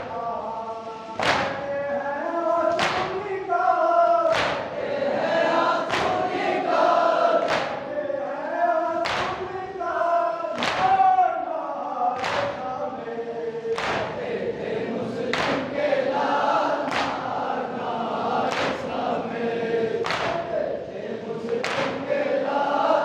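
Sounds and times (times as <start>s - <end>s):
men singing in unison: 0.0s - 23.0s.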